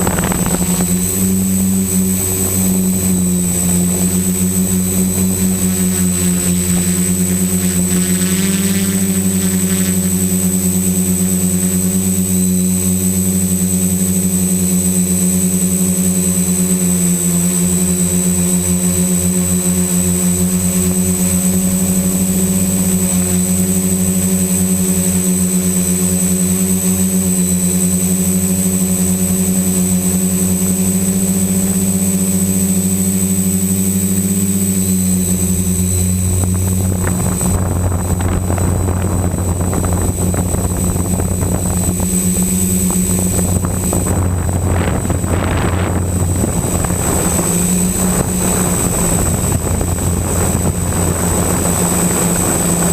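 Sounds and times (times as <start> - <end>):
quadcopter propellers droning: 0.0 - 52.9
thin high whine: 0.0 - 52.9.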